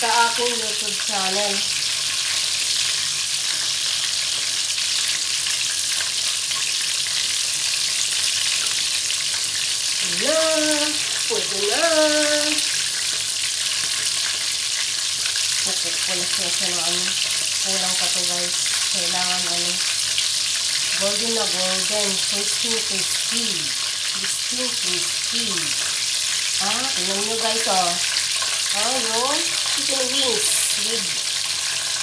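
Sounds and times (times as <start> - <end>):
chicken frying in oil: 0.0 - 32.0.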